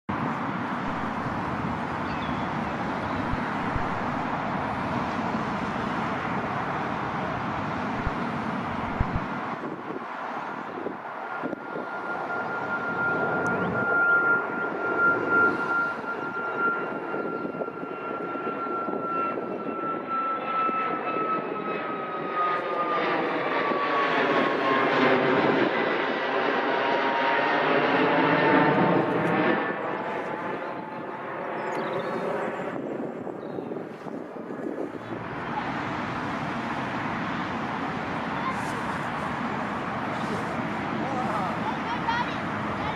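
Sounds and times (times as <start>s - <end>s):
jet engines roaring and whining: 0.1s - 42.9s.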